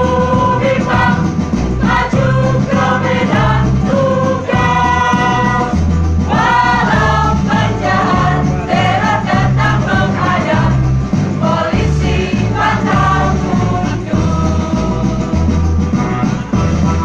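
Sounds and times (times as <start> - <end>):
choir singing: 0.0 - 15.7.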